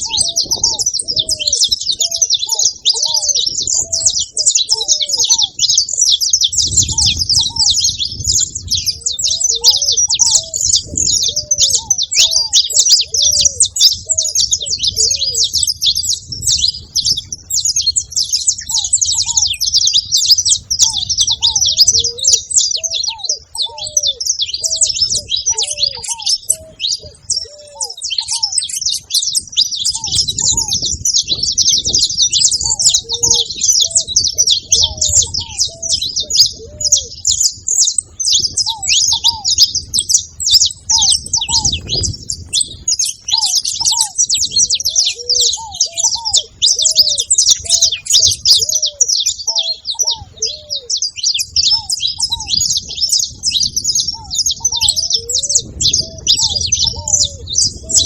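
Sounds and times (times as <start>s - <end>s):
finches chirping and singing: 0.0s - 58.0s
lower arched bird call: 0.0s - 58.0s.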